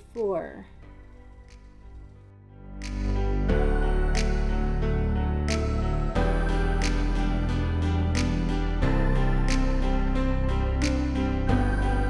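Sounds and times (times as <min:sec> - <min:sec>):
soft new-age instrumental music: 0:00.0 - 0:12.0.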